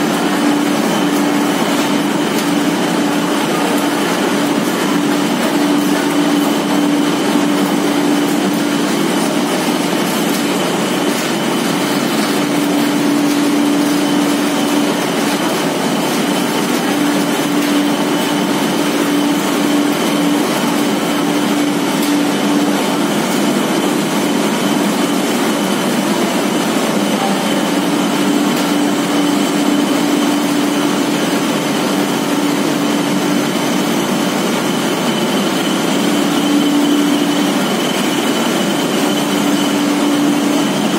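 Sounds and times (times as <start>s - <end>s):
machinery running with steady hum: 0.0s - 40.9s.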